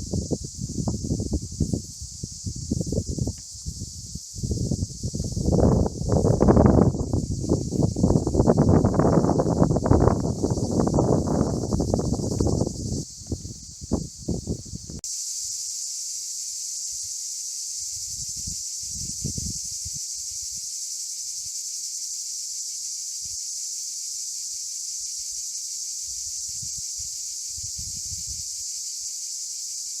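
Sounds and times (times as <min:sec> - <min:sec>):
insects chirping chorus: 0:00.0 - 0:30.0.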